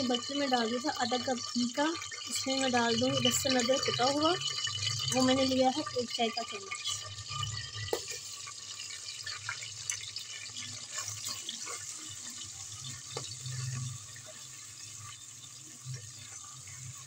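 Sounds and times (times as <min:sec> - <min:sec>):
garlic sizzling in hot ghee: 0:00.0 - 0:17.0.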